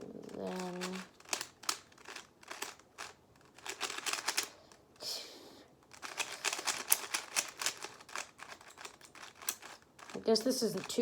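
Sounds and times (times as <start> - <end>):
puzzle cube layers clacking: 0.1 - 4.6, 5.8 - 11.0.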